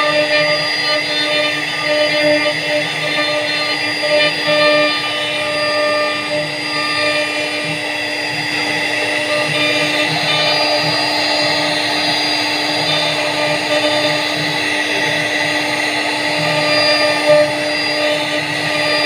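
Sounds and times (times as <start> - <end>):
router bit cutting wood: 0.0 - 19.0
router spindle whine: 0.0 - 19.0.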